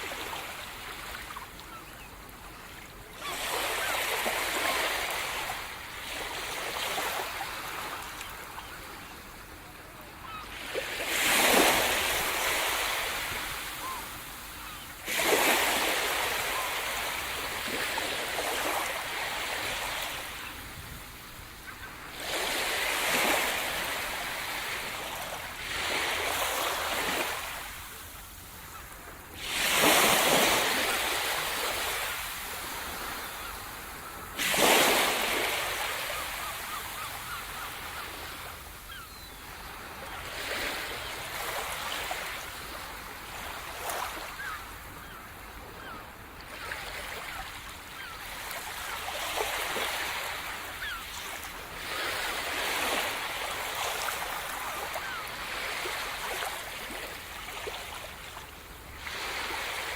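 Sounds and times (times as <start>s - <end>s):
waves washing on shore: 2.9s - 39.0s, 48.0s - 59.9s.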